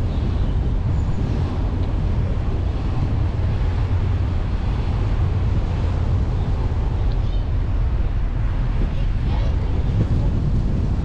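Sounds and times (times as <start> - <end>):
car engine and tyres rumbling: 0.0 - 11.0
wind on microphone: 0.0 - 11.0.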